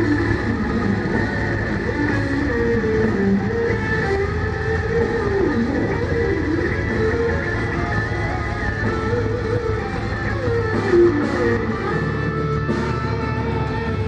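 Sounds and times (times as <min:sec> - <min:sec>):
heavy metal band playing: 0:00.0 - 0:14.0.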